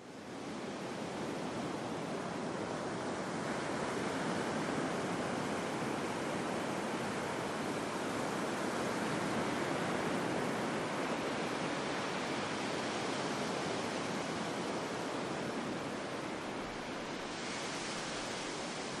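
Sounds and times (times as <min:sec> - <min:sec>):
ocean waves breaking: 0:01.0 - 0:19.0.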